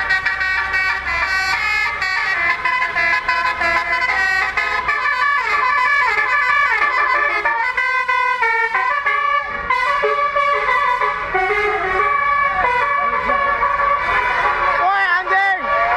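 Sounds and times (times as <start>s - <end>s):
musical bus air horn tune: 0.0s - 15.9s.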